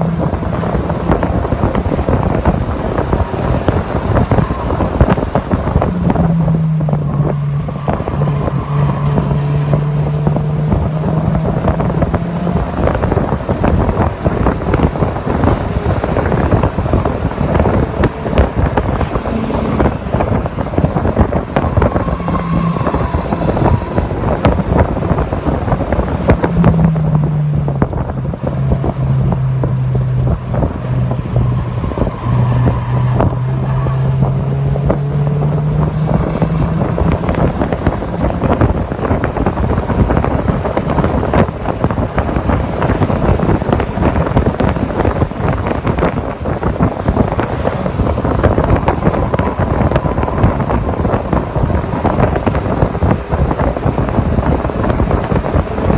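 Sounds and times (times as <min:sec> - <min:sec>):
car engine: 0:00.0 - 0:55.9
wind buffeting microphone: 0:00.0 - 0:55.9.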